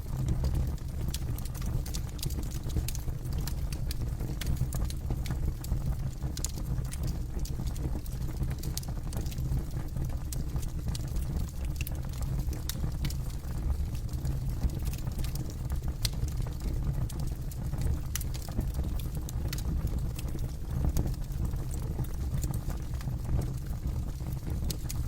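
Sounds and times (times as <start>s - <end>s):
low rumble of flames: 0.0s - 25.0s
campfire crackling and popping: 0.1s - 25.0s.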